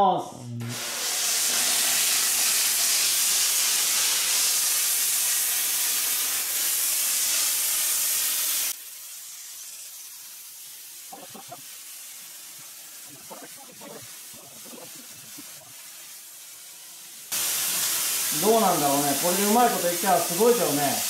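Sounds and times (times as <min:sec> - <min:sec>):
steam cleaner hissing: 0:00.6 - 0:21.0
faint hiss: 0:00.8 - 0:21.0.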